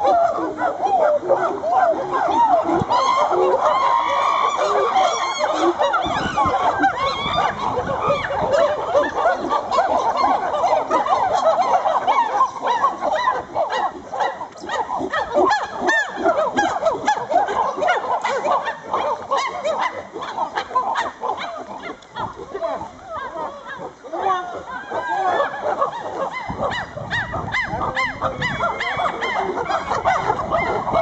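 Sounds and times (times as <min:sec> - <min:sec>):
chorus of animals calling: 0:00.0 - 0:31.0.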